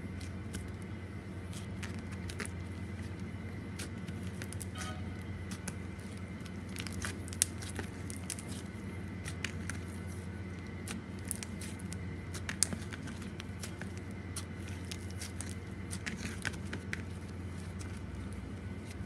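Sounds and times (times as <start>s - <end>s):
slime squished by hand: 0.0s - 19.0s.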